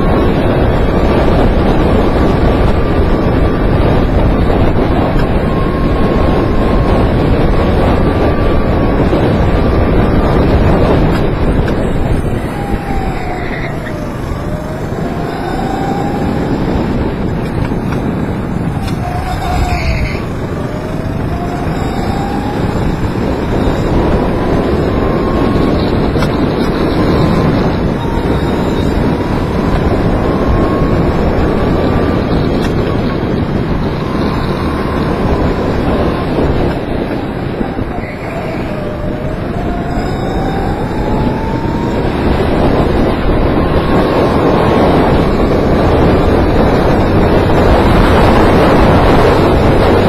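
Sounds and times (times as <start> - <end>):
wind noise on microphone: 0.0 - 50.0.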